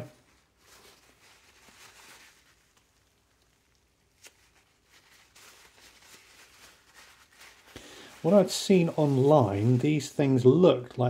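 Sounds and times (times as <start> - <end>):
paper towel rustling on metal: 0.0 - 11.0.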